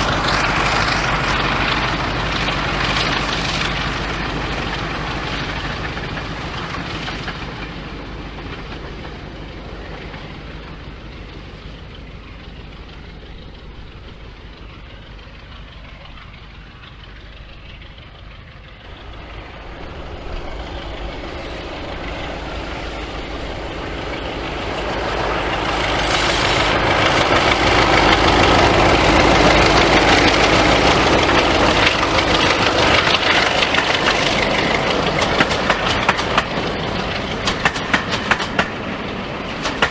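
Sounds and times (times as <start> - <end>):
diesel locomotive engine running: 0.0 - 39.9
train passing close: 0.0 - 39.9.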